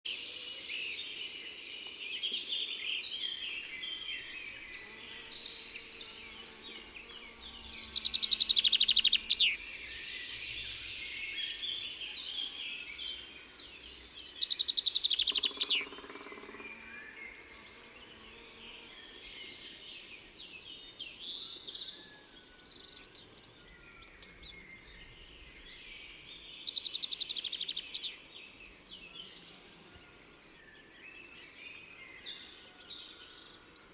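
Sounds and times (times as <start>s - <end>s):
songbirds singing with trills: 0.1s - 33.9s.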